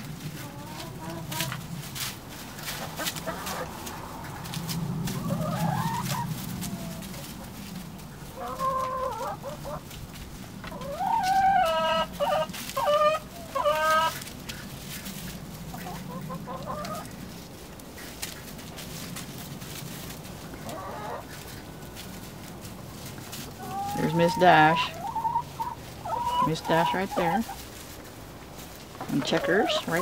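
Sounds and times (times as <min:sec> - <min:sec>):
hens clucking and squawking: 0:00.0 - 0:30.0.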